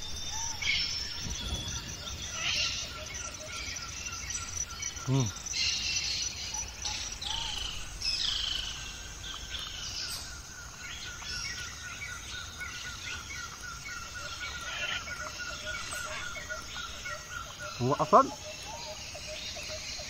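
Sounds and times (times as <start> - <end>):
birds singing: 0.0 - 20.0
rapid repeated bird chirps: 0.0 - 20.0.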